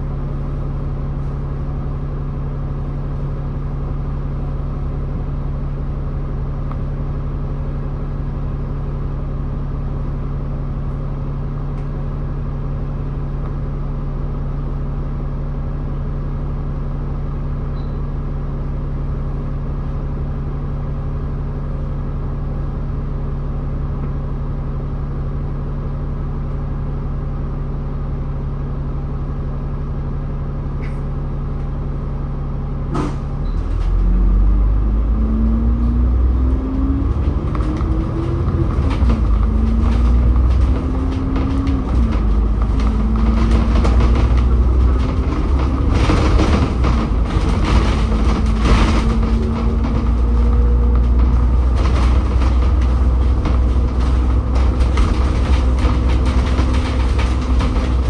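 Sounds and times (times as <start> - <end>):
bus engine idling and revving: 0.0 - 58.0.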